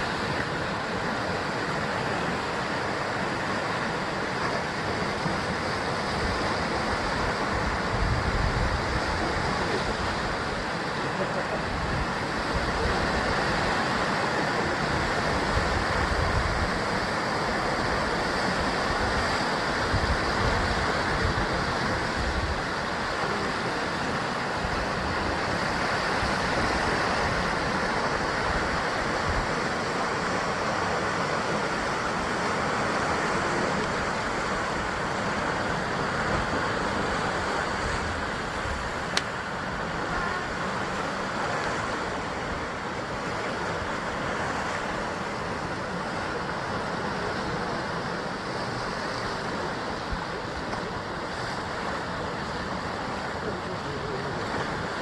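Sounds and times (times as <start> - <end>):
surf breaking on rocky coast: 0.0 - 55.0.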